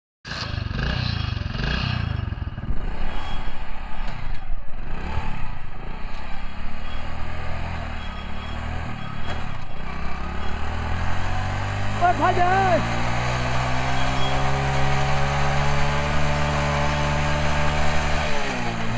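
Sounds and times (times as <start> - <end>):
motorcycle engine revving and idling: 0.3 - 18.9.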